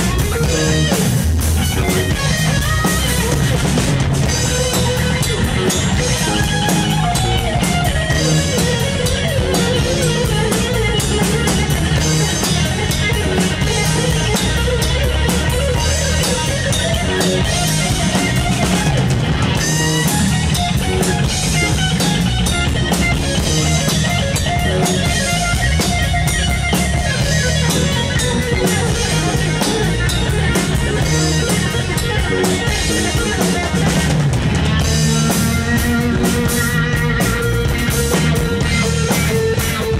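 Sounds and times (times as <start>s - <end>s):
bass guitar: 0.0s - 39.9s
drums: 0.0s - 39.9s
electric guitar lead line: 0.0s - 39.9s.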